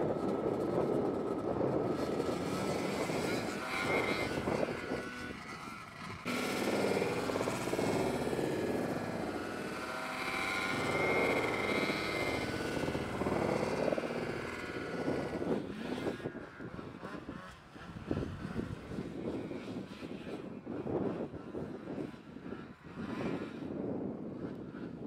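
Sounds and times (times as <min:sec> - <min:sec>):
snowmobile engine running hard: 0:00.0 - 0:25.0.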